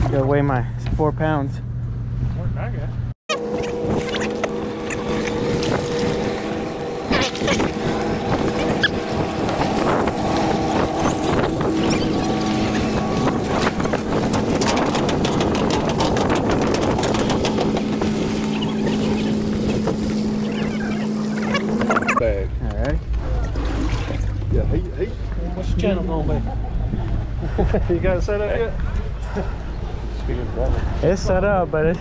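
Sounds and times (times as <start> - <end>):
steady engine hum: 0.0 - 32.0.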